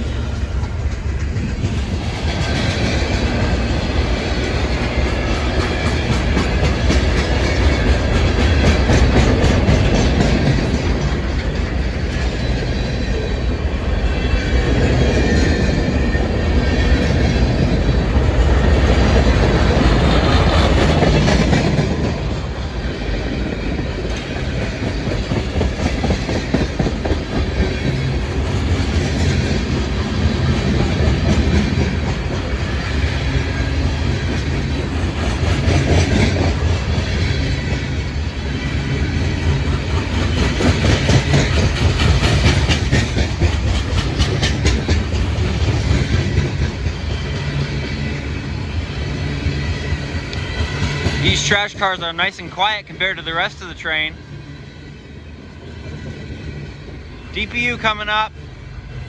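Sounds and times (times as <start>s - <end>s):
clickety-clack over rail joints: 0.0s - 59.0s
train wheels rumbling: 0.0s - 59.0s.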